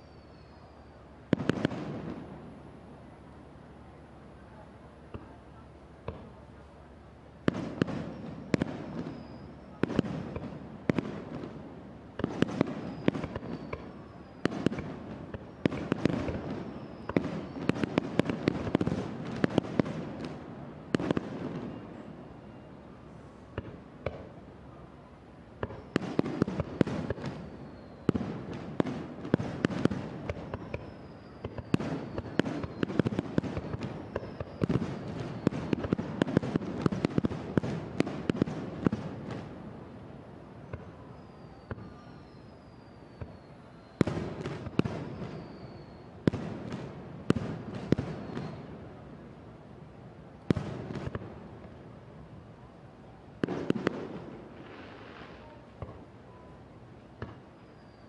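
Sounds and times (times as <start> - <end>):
fireworks bursting: 0.0 - 3.1, 7.4 - 24.4, 25.4 - 52.2, 53.4 - 56.1.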